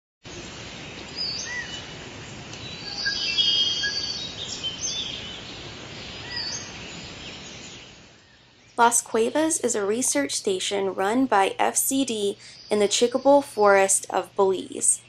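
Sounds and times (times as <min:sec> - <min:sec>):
steady forest hiss: 0:00.3 - 0:15.0
birds calling: 0:00.8 - 0:09.9, 0:10.7 - 0:15.0.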